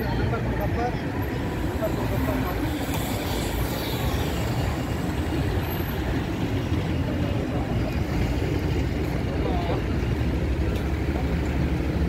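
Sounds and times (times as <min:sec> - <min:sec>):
bus engine passing close: 0:00.0 - 0:12.0
city street traffic: 0:00.0 - 0:12.0.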